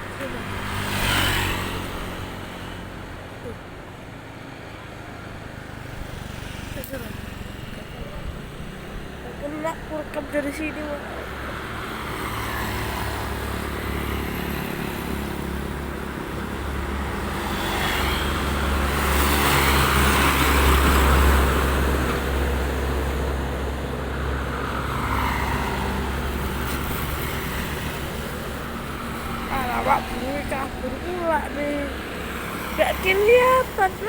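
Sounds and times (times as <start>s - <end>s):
motor vehicle passing by: 0.0s - 34.0s.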